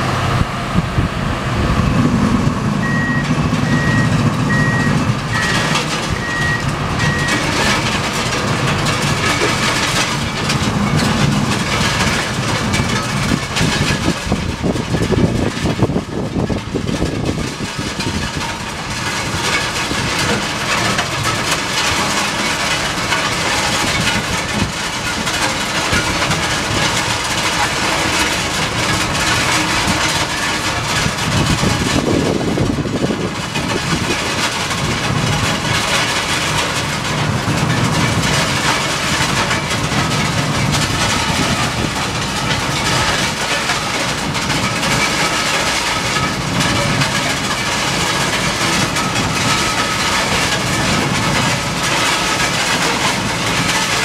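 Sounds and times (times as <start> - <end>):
track machine diesel engine running: 0.0 - 54.0.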